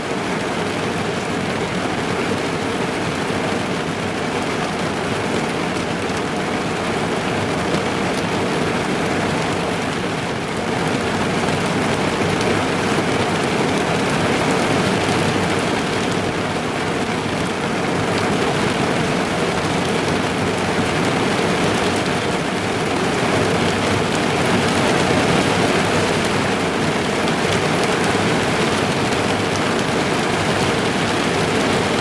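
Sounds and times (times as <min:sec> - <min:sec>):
rain drumming on car roof: 0:00.1 - 0:32.0.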